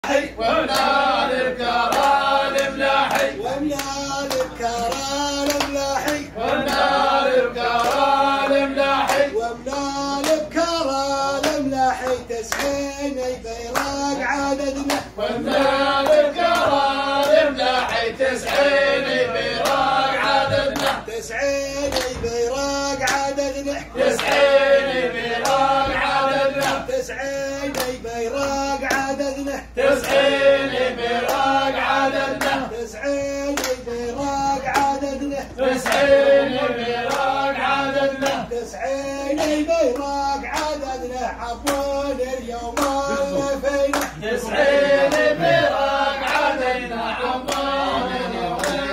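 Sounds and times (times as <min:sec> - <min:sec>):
men chanting in unison: 0:00.0 - 0:48.9
rhythmic hand clapping: 0:00.0 - 0:48.9.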